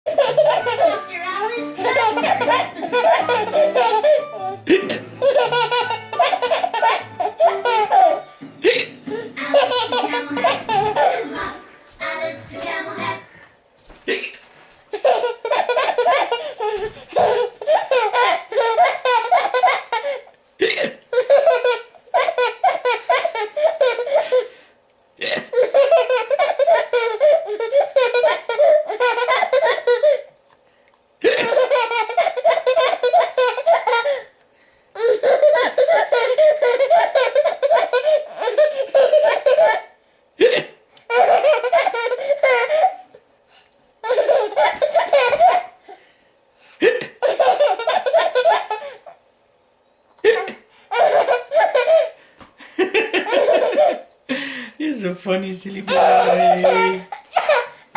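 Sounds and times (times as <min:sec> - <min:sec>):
baby laughing: 0:00.1 - 0:12.2, 0:14.9 - 0:24.5, 0:25.3 - 0:30.3, 0:31.2 - 0:34.3, 0:35.0 - 0:43.2, 0:44.0 - 0:45.8, 0:46.8 - 0:49.2, 0:50.2 - 0:52.2, 0:52.9 - 0:54.1, 0:55.9 - 0:57.9.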